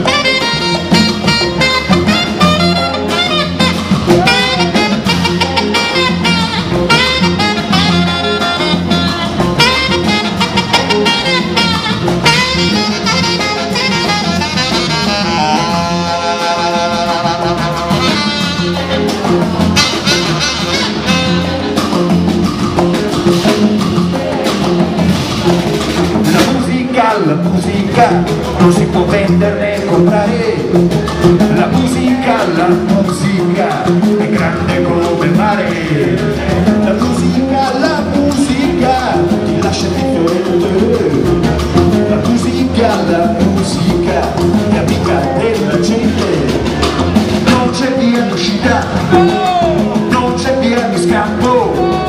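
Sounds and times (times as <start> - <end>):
saxophone lead: 0.0 - 26.7, 27.5 - 52.0
bass guitar: 0.0 - 52.0
drum kit: 0.0 - 52.0
electric guitars: 0.0 - 52.0
hand drum: 0.0 - 52.0.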